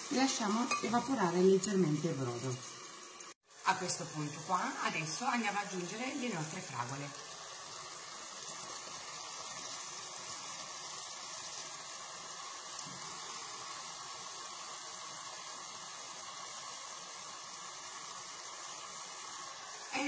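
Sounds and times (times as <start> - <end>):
risotto bubbling in a pan: 0.0 - 20.0.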